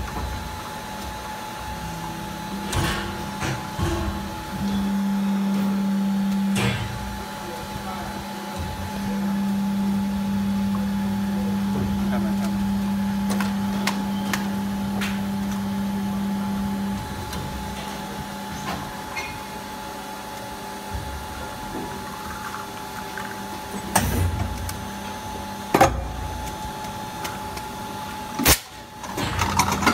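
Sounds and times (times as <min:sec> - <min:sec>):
machine low hum: 0:00.0 - 0:29.9.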